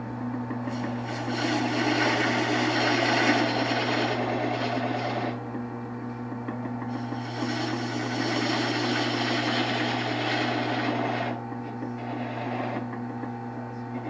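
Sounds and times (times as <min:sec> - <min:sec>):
tool scraping spinning wood: 0:00.0 - 0:05.6, 0:06.4 - 0:14.0
wood lathe motor hum: 0:00.0 - 0:05.7, 0:06.3 - 0:14.0.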